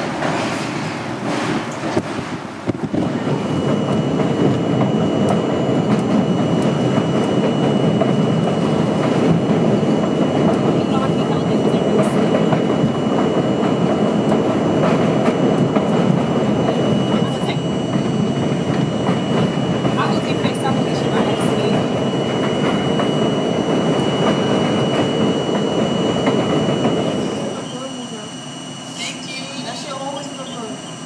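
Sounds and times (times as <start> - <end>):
subway train rumbling on track: 0.0 - 31.0.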